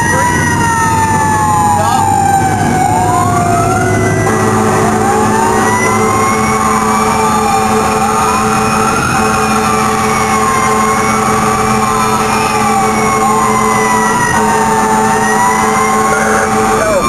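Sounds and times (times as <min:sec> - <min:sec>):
engine drone: 0:00.0 - 0:17.0
fire engine sirens wailing: 0:00.0 - 0:17.0.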